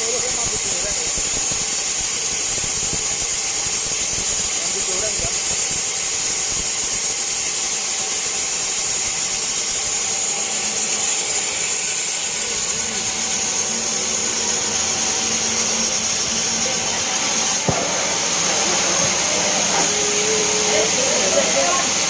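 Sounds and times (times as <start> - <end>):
band saw cutting log: 0.0 - 22.0.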